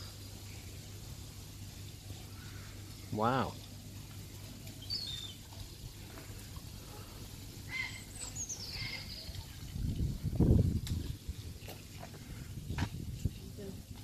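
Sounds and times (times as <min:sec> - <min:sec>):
low outdoor rumble: 0:00.0 - 0:14.0
songbirds chirping: 0:00.0 - 0:14.0.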